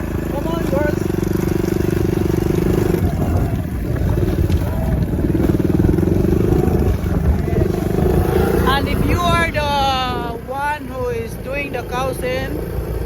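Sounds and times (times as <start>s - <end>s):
small engine running steadily: 0.0s - 13.0s.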